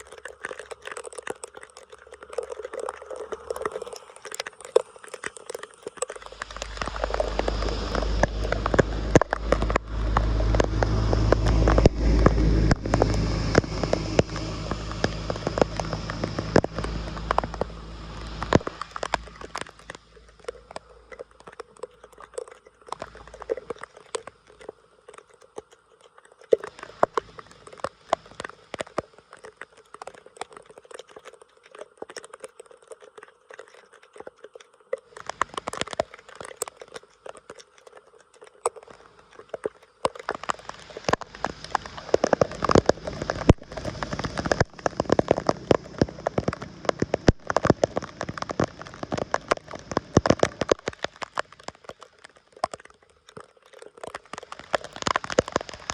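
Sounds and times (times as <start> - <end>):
wet crackling and splashing water: 0.0 - 55.9.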